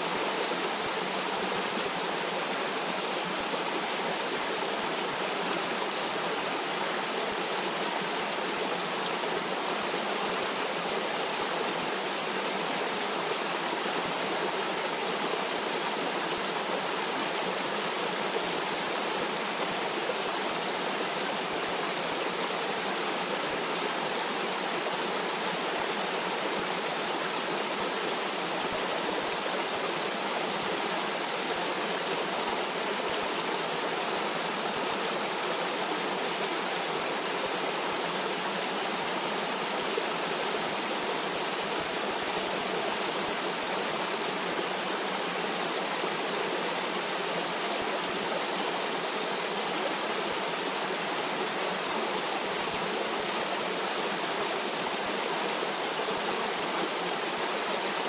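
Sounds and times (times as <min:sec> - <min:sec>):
stream of water rushing: 0:00.0 - 0:58.0.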